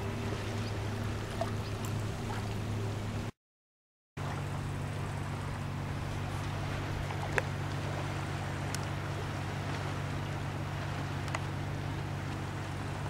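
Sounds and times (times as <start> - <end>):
boat engine droning: 0.0 - 3.3, 4.2 - 13.0.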